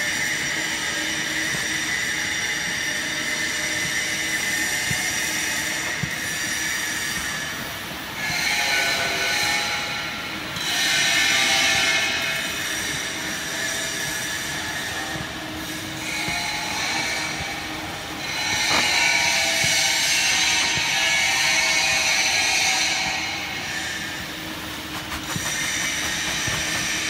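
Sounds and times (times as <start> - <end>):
baling press machine whine: 0.0 - 27.0.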